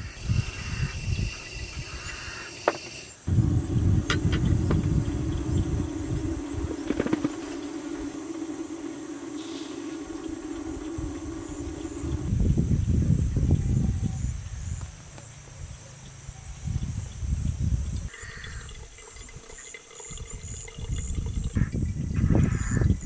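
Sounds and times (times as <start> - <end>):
wind buffeting microphone: 0.0 - 2.4, 3.2 - 23.0
insects trilling: 0.0 - 23.0.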